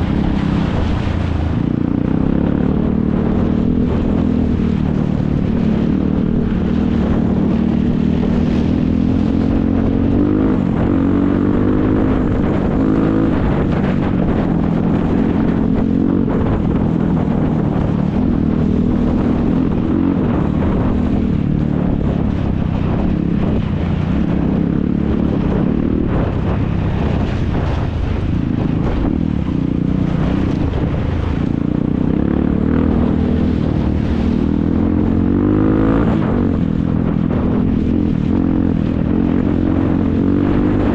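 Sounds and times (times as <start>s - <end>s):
atv engines revving: 0.0s - 40.9s.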